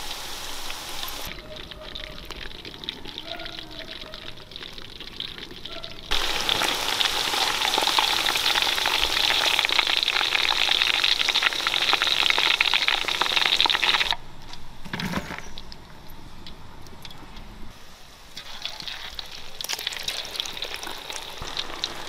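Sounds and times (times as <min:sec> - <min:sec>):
hot oil sizzling and crackling: 0:00.0 - 0:14.2, 0:18.1 - 0:22.0.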